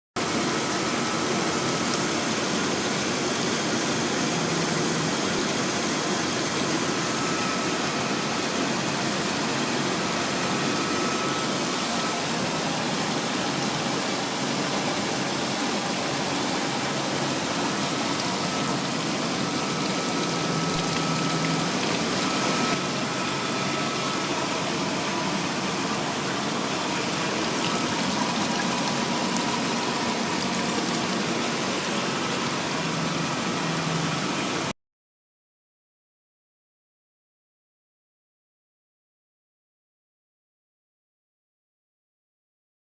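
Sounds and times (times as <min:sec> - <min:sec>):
pump with rushing water: 0:00.2 - 0:34.7.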